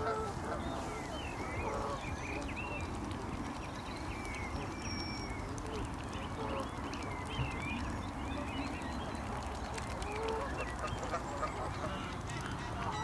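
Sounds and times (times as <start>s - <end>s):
small birds chirping: 0.6s - 13.0s.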